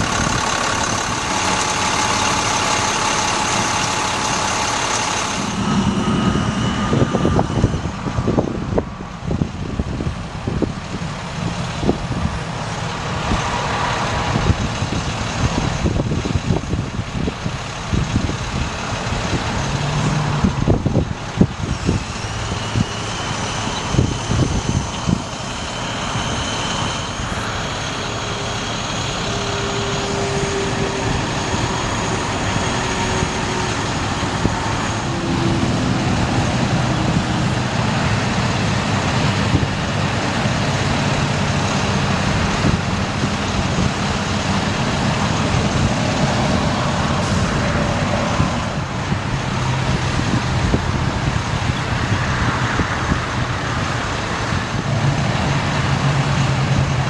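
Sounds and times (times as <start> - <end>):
low hum: 0.0 - 51.5
diesel truck engine running: 0.0 - 57.0.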